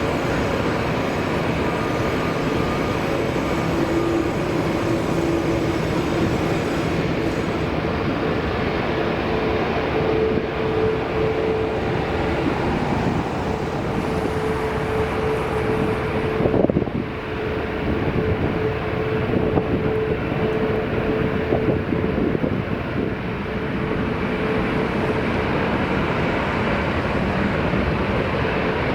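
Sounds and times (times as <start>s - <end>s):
jet engines whining: 0.0s - 28.9s
wind noise on microphone: 0.0s - 28.9s.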